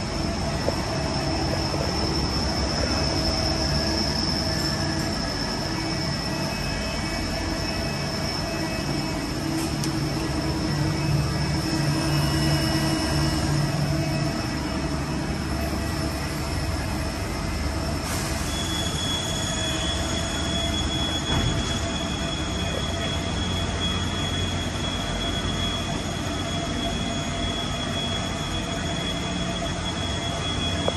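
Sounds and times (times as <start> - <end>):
high steady machine whines: 0.0 - 30.9
machine tools humming: 0.0 - 30.9.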